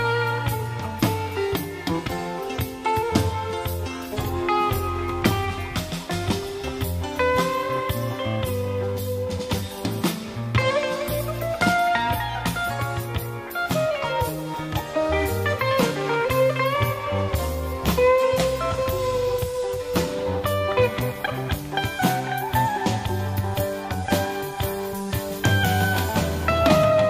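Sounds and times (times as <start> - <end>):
blues music: 0.0 - 27.0.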